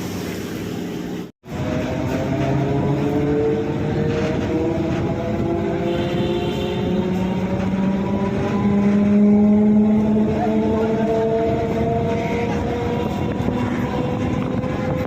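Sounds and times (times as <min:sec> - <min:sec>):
rumble of wheels on track: 0:00.0 - 0:15.0.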